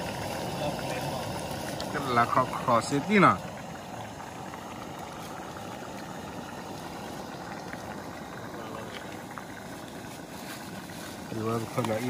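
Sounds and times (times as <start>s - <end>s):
stew bubbling in pot: 0.0s - 12.0s.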